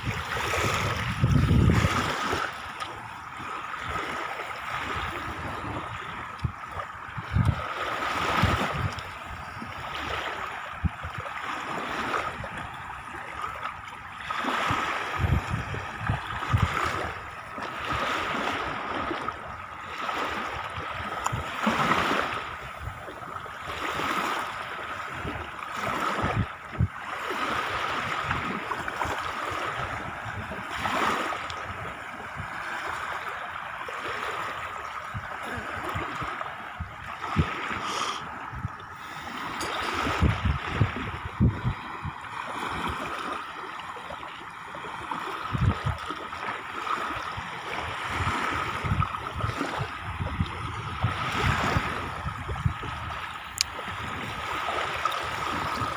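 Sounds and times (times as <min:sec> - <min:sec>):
small waves lapping on shore: 0:00.0 - 0:55.9.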